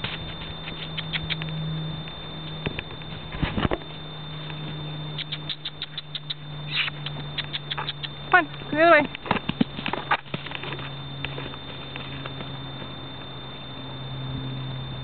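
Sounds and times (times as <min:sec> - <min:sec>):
hooves tapping: 0:00.0 - 0:12.9
steady low hum: 0:00.0 - 0:15.0.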